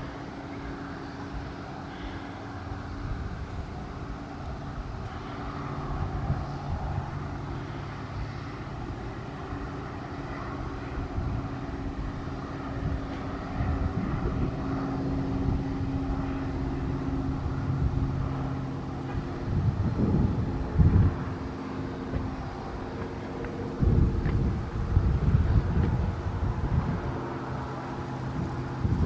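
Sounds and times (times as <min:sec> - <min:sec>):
engine drone: 0:00.0 - 0:29.0
wind on microphone: 0:00.0 - 0:29.0.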